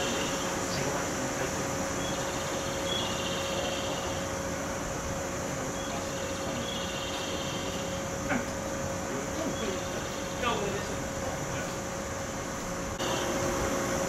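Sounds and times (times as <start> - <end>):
electric train equipment humming: 0.0 - 14.0
mid-pitched whine: 0.0 - 14.0.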